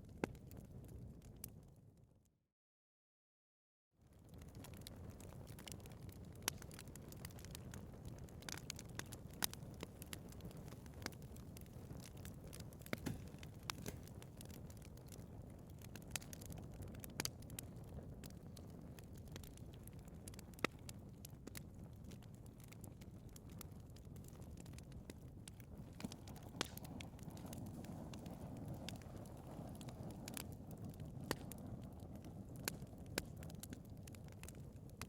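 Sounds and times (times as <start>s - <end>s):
fire crackling and popping: 0.0s - 1.8s, 4.0s - 35.0s
low rush of flames: 4.1s - 35.0s.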